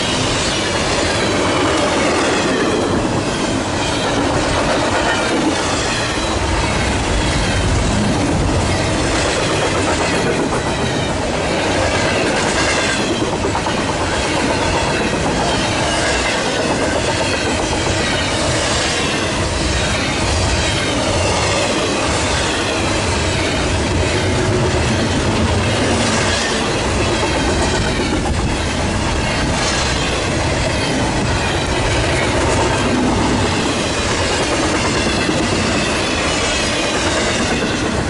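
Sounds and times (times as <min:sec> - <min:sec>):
steel wheels rolling on rails: 0:00.0 - 0:38.0.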